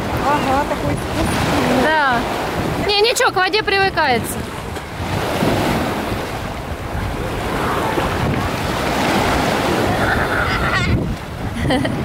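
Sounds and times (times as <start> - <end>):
small waves breaking in surf: 0.0 - 12.0
wind rumbling on microphone: 0.0 - 12.0.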